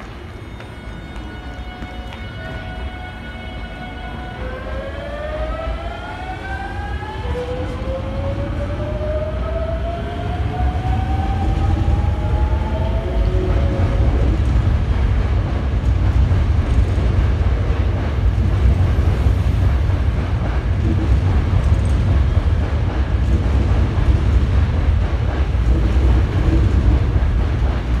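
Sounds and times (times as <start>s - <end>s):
train inverter whine: 0.0s - 28.0s
train wheels and motors rumbling: 0.0s - 28.0s.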